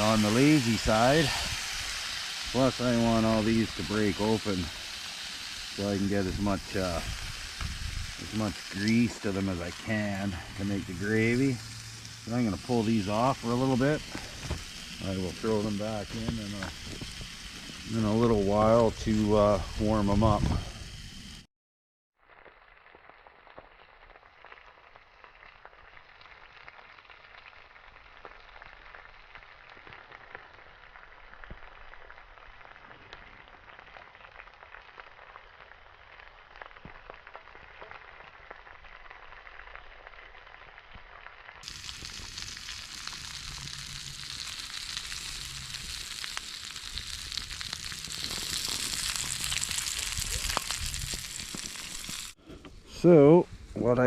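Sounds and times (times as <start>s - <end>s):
grease popping: 0.0s - 20.4s, 22.4s - 52.4s
fat sizzling in a frying pan: 0.0s - 21.5s, 22.2s - 52.4s.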